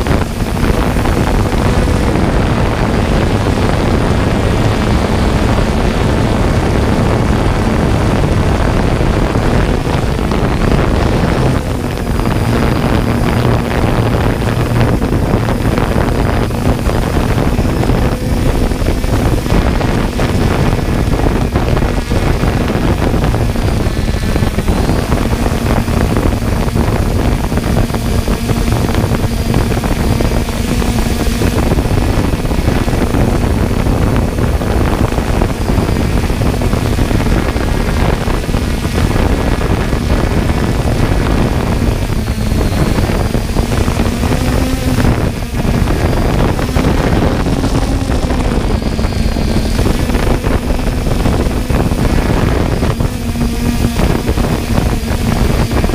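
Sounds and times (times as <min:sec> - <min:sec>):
drone motors humming: 0:00.0 - 0:55.9
wind on microphone: 0:00.0 - 0:55.9.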